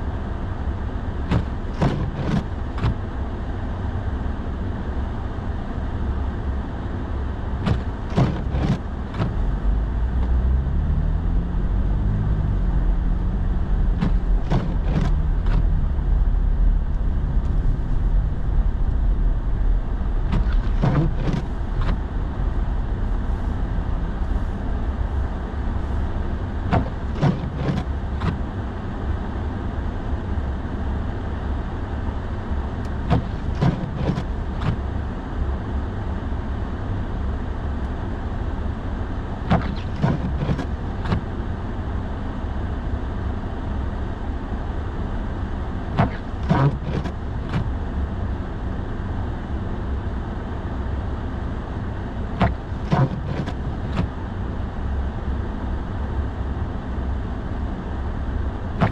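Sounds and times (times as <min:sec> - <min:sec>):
road and engine rumble: 0:00.0 - 0:58.9.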